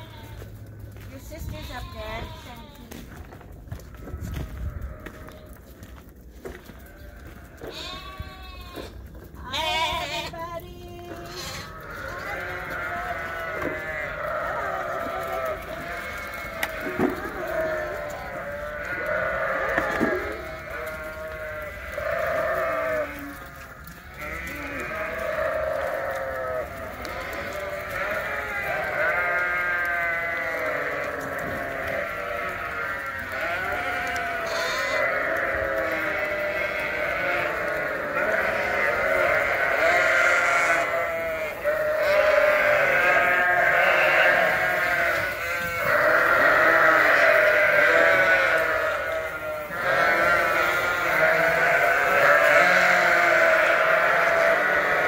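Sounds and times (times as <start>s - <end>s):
lambs bleating: 0.0s - 3.1s, 4.0s - 5.6s, 6.5s - 55.0s.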